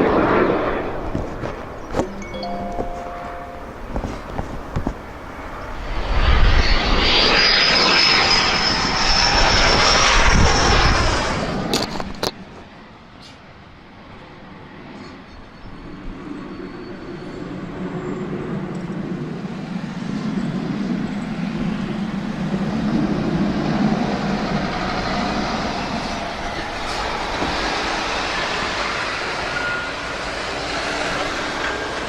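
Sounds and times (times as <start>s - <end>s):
jet fighter engine roar: 0.0s - 1.9s, 4.0s - 32.0s.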